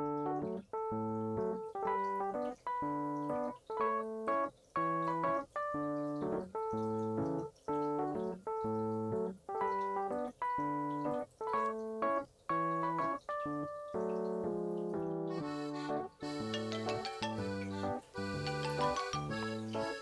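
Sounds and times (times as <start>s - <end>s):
electric piano chords: 0.0s - 20.0s.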